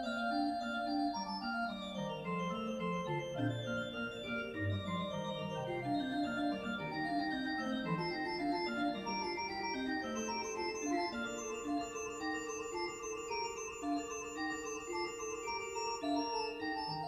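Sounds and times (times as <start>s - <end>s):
pipe organ playing: 0.0s - 17.0s.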